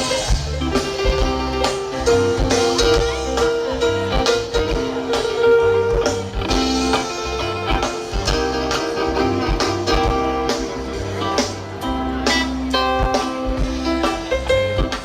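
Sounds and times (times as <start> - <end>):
bass line: 0.0 - 15.0
guitar: 0.0 - 15.0.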